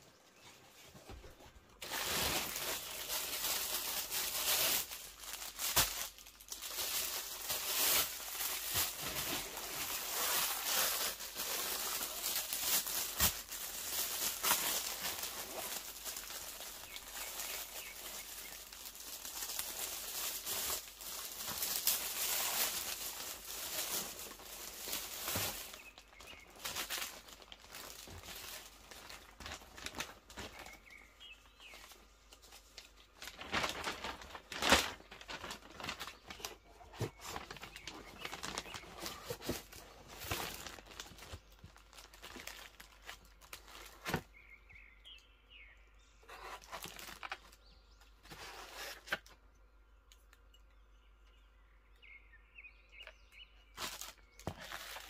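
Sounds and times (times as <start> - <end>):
plastic bags crinkling: 1.1 - 44.4, 46.5 - 49.3, 53.7 - 55.0.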